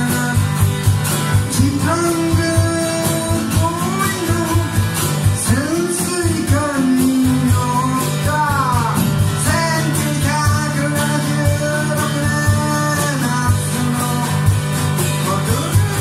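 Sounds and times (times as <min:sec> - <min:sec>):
acoustic guitar: 0:00.0 - 0:16.0
drum kit beat: 0:00.0 - 0:16.0
man singing: 0:00.0 - 0:16.0.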